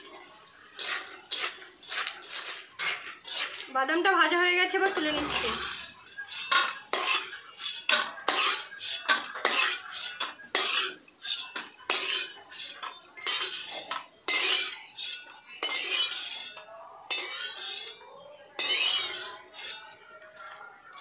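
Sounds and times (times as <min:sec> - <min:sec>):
spoon scraping metal pan: 0:00.0 - 0:20.0.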